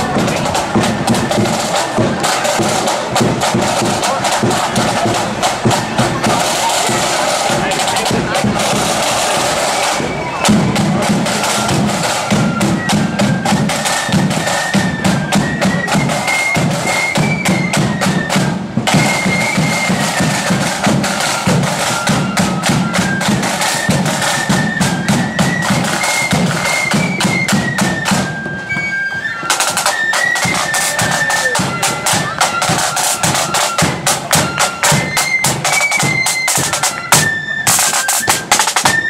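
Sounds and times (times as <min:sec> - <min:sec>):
flute band melody: 0:00.0 - 0:39.0
side drum strokes and rolls: 0:00.0 - 0:39.0.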